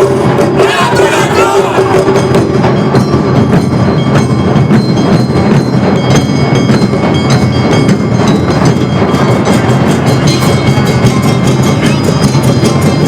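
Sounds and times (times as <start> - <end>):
hand gongs clanging: 0.0 - 13.0
taiko drums beating: 0.0 - 13.0.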